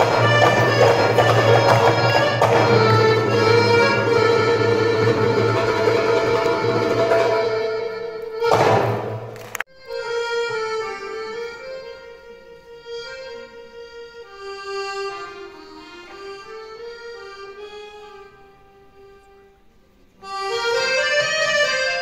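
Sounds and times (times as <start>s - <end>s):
accordion melody: 0.0s - 22.0s.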